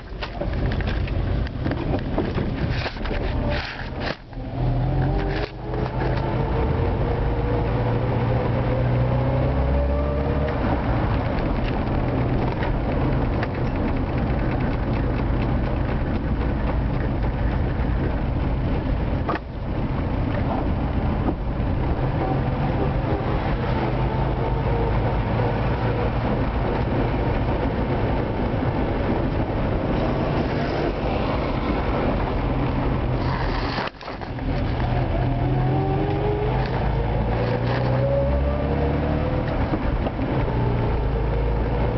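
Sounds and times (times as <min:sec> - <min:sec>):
car engine from inside cabin: 0:00.0 - 0:41.9
road noise: 0:00.0 - 0:41.9.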